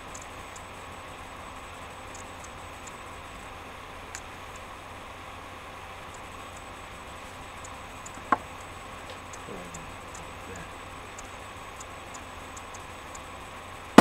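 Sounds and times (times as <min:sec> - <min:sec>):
faint light ticking: 0:00.0 - 0:04.7, 0:06.0 - 0:14.0
steady background hiss: 0:00.0 - 0:14.0.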